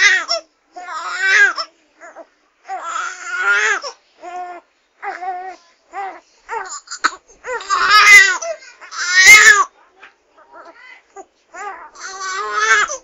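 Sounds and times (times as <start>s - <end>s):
baby crying: 0.0s - 9.7s, 10.5s - 13.0s.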